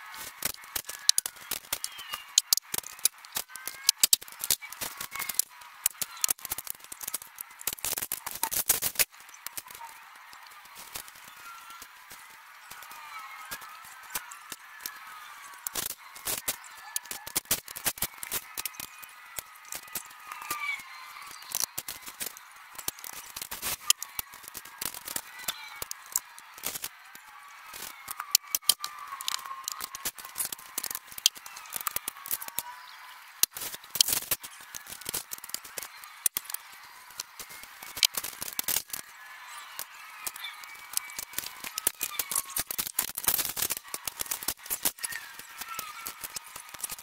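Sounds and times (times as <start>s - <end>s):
vinyl film crackling and rustling: 0.0s - 47.0s.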